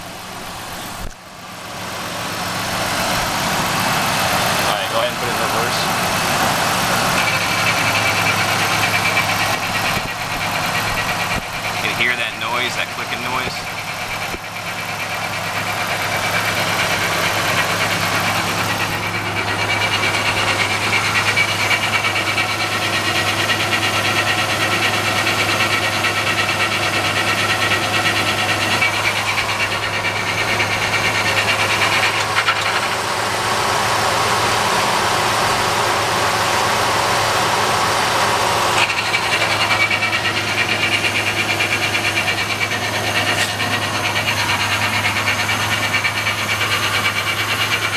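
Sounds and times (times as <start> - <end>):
engine idling hum: 0.0 - 47.9
transmission grinding: 1.8 - 47.9.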